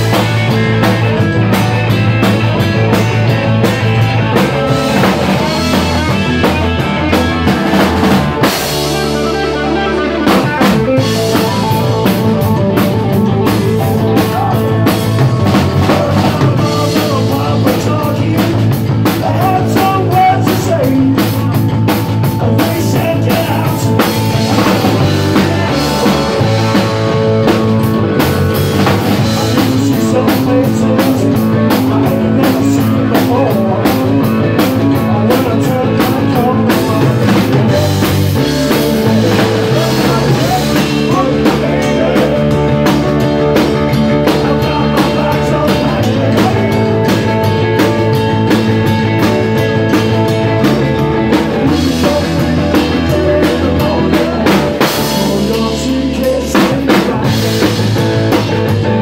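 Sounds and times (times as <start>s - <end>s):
drum kit: 0.0s - 59.0s
electric bass: 0.0s - 59.0s
electric guitar: 0.0s - 59.0s
man singing: 0.0s - 59.0s.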